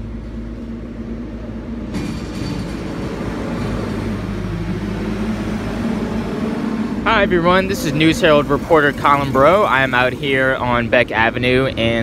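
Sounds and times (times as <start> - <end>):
loud engine drone: 0.0 - 12.0
low engine rumble: 0.0 - 12.0.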